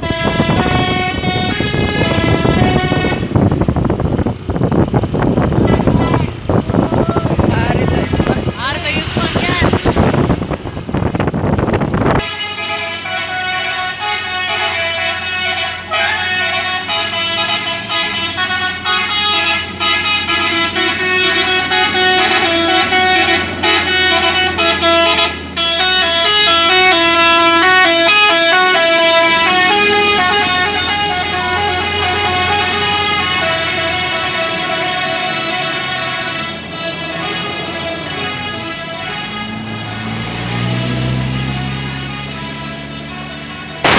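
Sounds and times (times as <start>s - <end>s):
truck air horn playing a tune: 0.0s - 3.6s, 5.6s - 10.4s, 12.1s - 43.9s.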